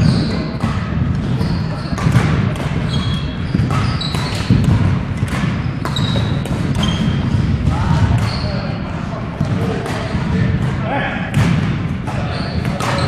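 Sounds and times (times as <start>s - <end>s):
sneakers squeaking: 0.0s - 10.8s, 11.4s - 13.0s
rackets hitting shuttlecock: 0.0s - 13.0s.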